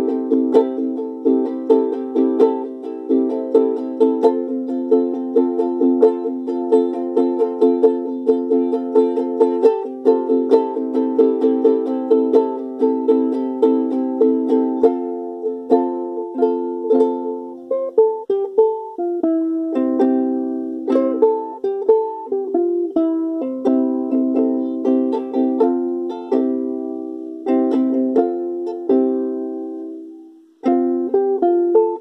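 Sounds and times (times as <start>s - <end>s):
ukulele strummed chords: 0.0s - 32.0s.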